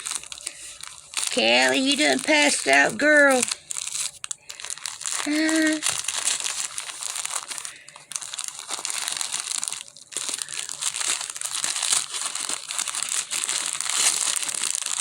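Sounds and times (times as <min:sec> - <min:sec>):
packaging crumpling and rustling: 0:00.0 - 0:15.0.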